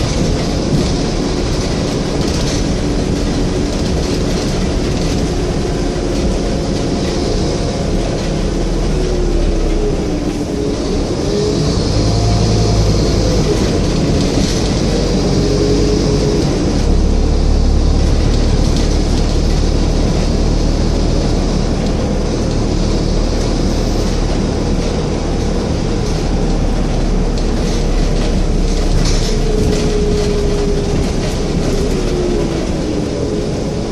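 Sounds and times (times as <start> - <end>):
bus engine running: 0.0 - 33.9
rattles: 0.0 - 33.9
road noise: 0.0 - 33.9.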